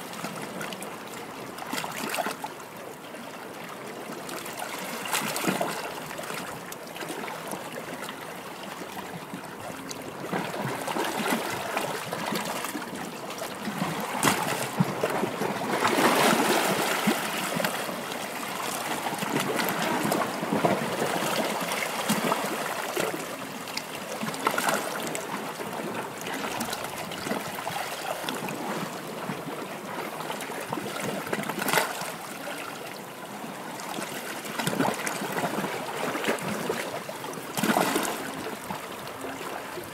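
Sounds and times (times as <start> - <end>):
water splashes: 3.2 - 39.9.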